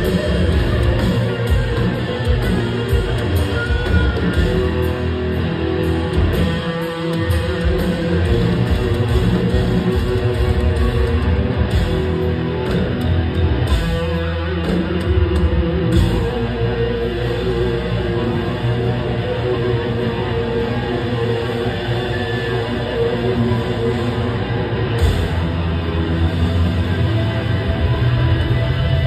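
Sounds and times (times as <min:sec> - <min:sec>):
heavy metal band playing: 0:00.0 - 0:29.0.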